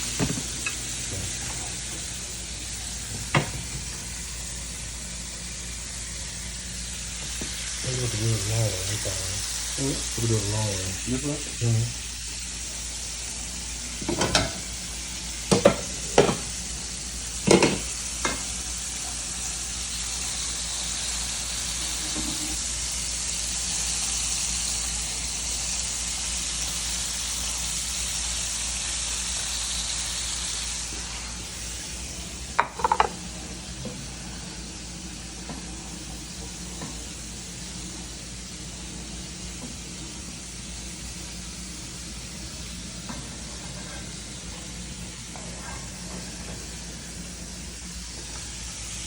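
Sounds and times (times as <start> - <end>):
chicken deep-frying sizzle: 0.0 - 49.0.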